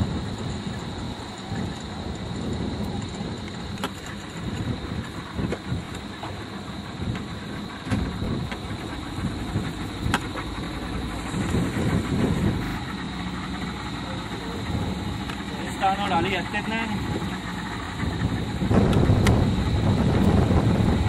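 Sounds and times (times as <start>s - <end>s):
engine rumbling: 0.0s - 21.0s
wind noise: 0.0s - 21.0s.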